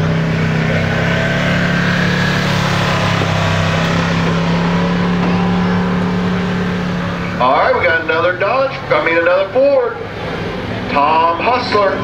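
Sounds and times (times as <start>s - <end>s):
diesel truck engine running: 0.0s - 12.0s
engine whine: 0.0s - 12.0s.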